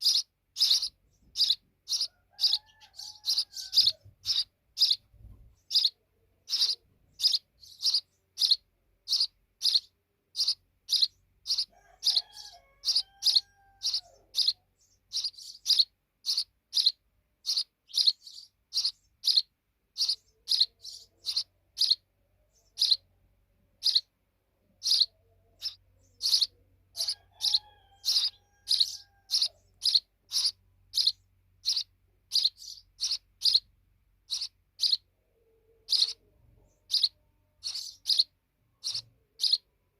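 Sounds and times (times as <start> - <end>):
sparrow chirping: 0.0 - 39.8.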